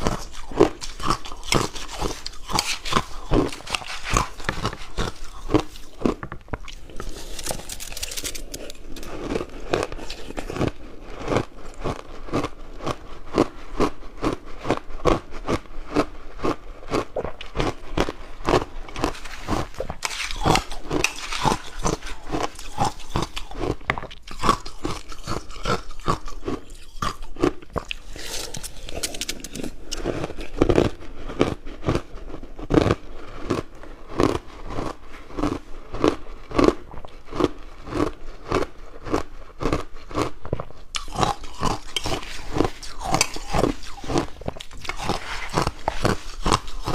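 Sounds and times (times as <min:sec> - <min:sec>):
crunching and chewing ice: 0:00.0 - 0:46.9.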